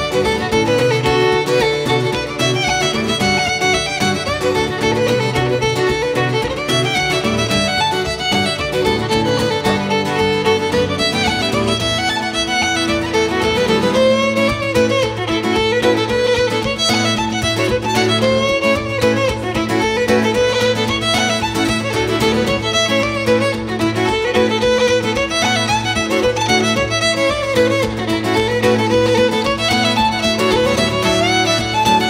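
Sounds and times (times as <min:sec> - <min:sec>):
fiddle playing a reel: 0:00.0 - 0:32.0
strummed acoustic guitar: 0:00.0 - 0:32.0.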